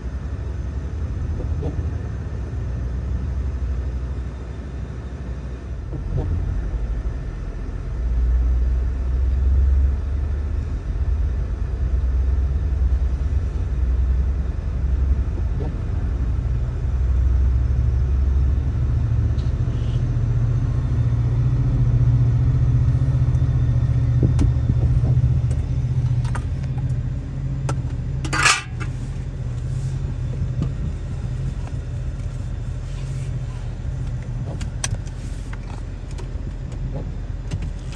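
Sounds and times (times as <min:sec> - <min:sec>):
diesel locomotive rumble: 0:00.0 - 0:37.9.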